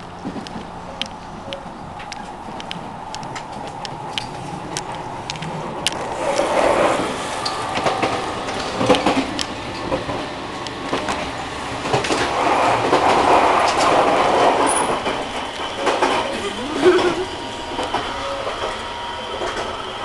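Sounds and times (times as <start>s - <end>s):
electric train running rumble: 0.0s - 20.0s.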